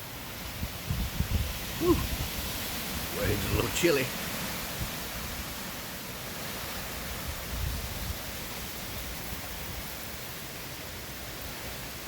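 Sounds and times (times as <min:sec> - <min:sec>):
wind and rain rushing: 0:00.0 - 0:12.0
wind gusts buffeting microphone: 0:00.4 - 0:10.3.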